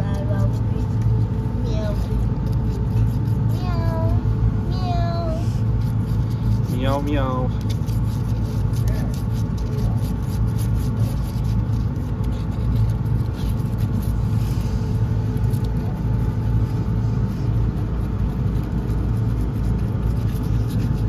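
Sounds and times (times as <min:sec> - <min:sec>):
loud low rumble with hum: 0:00.0 - 0:21.0.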